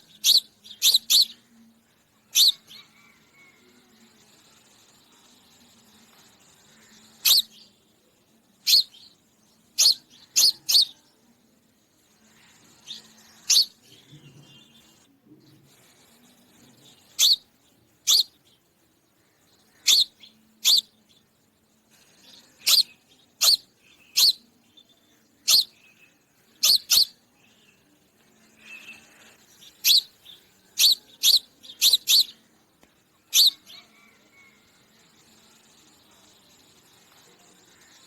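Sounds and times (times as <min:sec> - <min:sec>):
sparrow chirping: 0:00.0 - 0:01.6, 0:02.3 - 0:03.2, 0:06.1 - 0:07.8, 0:08.6 - 0:11.1, 0:12.1 - 0:32.6, 0:33.2 - 0:37.0.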